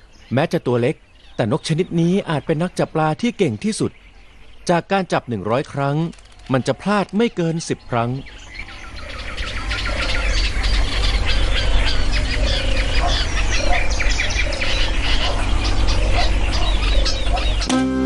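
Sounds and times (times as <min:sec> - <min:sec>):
chorus of birds calling: 0:00.0 - 0:18.0.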